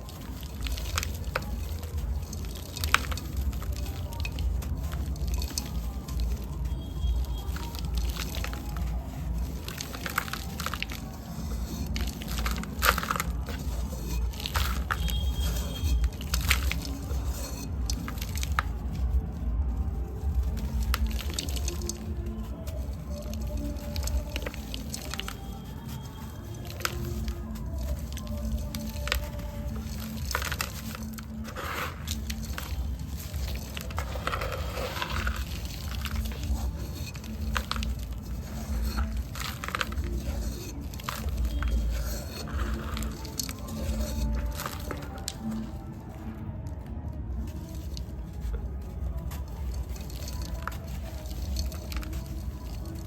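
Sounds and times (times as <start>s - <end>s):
gritty crunching of crumbling cement: 0.0s - 53.0s.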